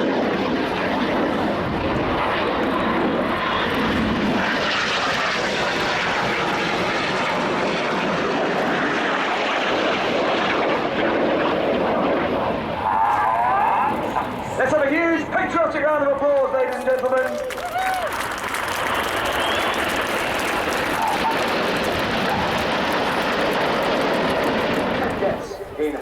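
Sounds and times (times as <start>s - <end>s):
jet aircraft roaring: 0.0s - 26.0s.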